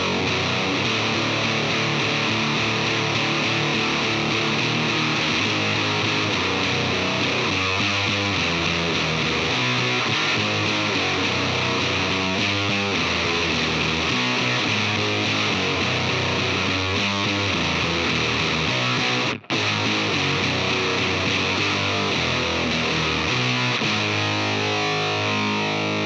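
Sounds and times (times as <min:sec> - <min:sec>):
distorted electric guitar riff: 0:00.0 - 0:26.0.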